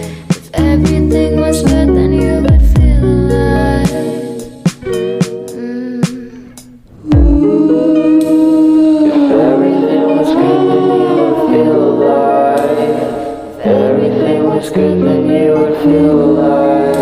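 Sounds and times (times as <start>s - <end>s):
pop song with layered singing: 0.0s - 17.0s.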